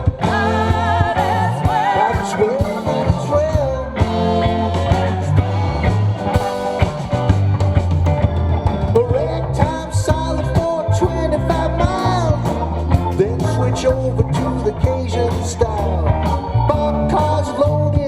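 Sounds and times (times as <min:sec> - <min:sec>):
bending lead guitar melody: 0:00.0 - 0:18.0
rock band playing: 0:00.0 - 0:18.0.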